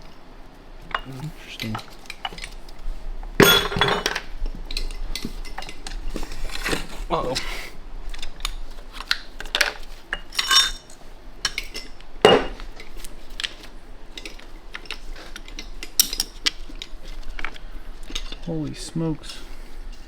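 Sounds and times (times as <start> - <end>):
steel parts clinking and clanking: 0.9 - 2.8, 3.4 - 6.8, 9.0 - 20.0.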